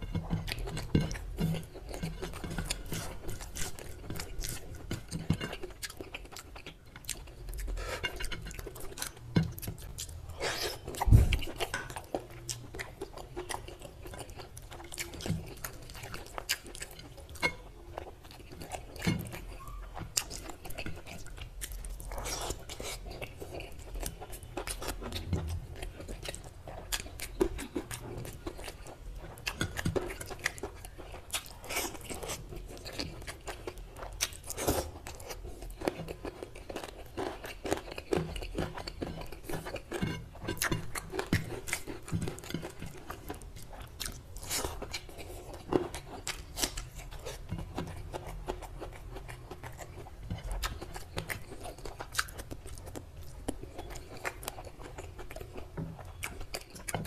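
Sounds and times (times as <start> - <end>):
close chewing of food: 0.0 - 57.0.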